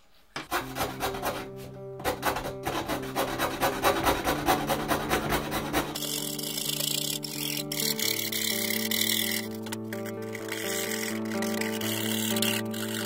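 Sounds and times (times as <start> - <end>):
background music: 0.4 - 13.0
fretsaw sawing through wood: 0.5 - 13.0.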